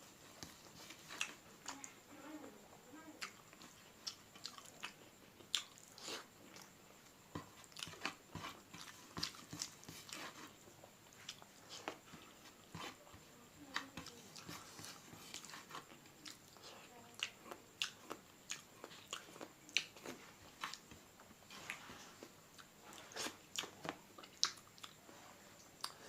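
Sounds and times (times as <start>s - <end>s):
person chewing food: 0.0s - 2.0s, 3.2s - 26.0s.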